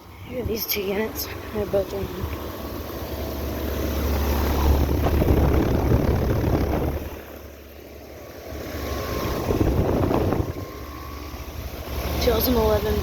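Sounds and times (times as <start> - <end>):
air conditioner fans whooshing: 0.0 - 13.0
low hum: 0.0 - 13.0.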